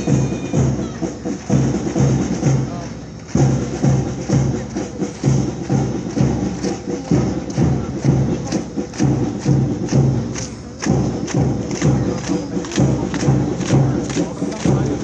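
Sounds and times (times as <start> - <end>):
parade drums marching rhythm: 0.0 - 15.0.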